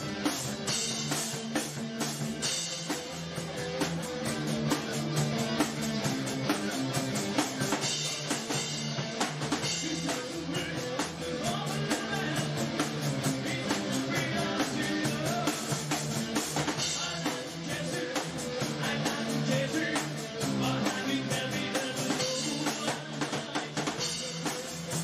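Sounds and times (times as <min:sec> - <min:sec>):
music with drums and guitar: 0:00.0 - 0:25.0.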